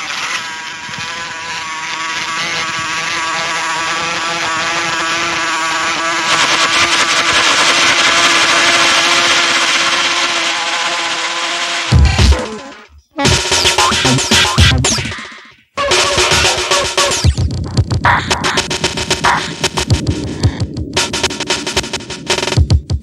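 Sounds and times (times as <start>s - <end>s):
buzzing synth drone: 0.0s - 23.0s.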